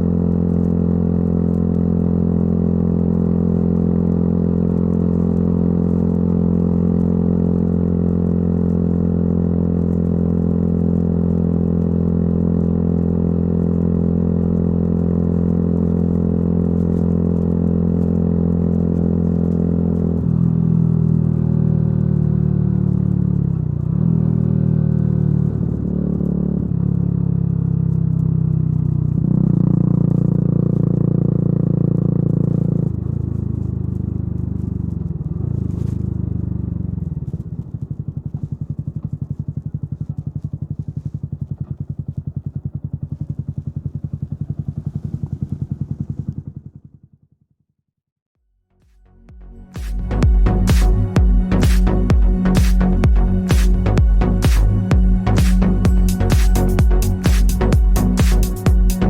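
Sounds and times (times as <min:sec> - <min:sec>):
motorcycle engine revving and idling: 0:00.0 - 0:47.9, 0:49.3 - 0:59.0.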